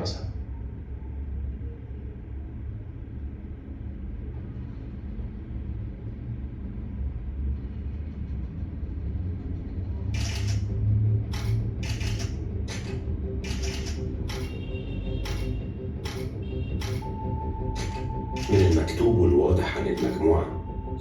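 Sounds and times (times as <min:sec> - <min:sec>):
low rumbling drone: 0:00.0 - 0:21.0.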